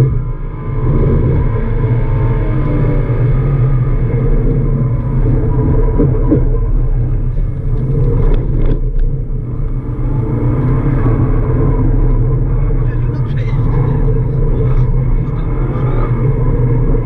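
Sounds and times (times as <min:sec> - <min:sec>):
car engine pulling under throttle: 0:00.0 - 0:17.0.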